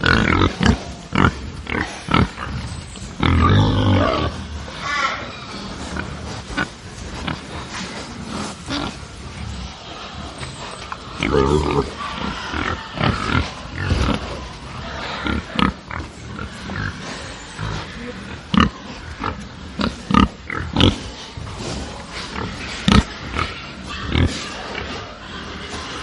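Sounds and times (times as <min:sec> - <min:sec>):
pigs grunting and squealing: 0:00.0 - 0:26.0.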